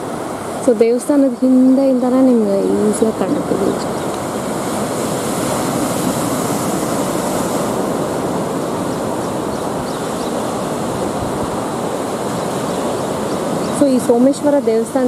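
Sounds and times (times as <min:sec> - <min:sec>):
wind on microphone: 0:00.0 - 0:15.0
surf breaking on rocks: 0:02.6 - 0:15.0.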